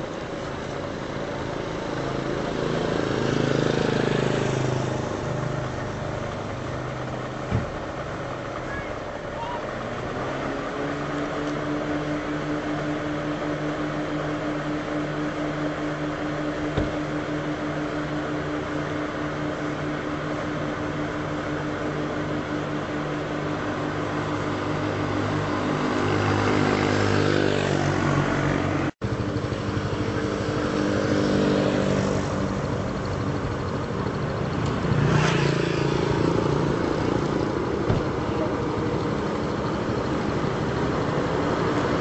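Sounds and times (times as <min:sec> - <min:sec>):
engine humming: 0:00.0 - 0:42.0.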